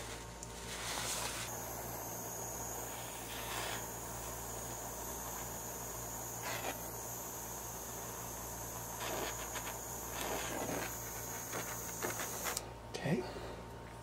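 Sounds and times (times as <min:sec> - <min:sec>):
lighter hissing bursts: 0:00.0 - 0:12.7
steady high-pitched whine: 0:00.0 - 0:14.0.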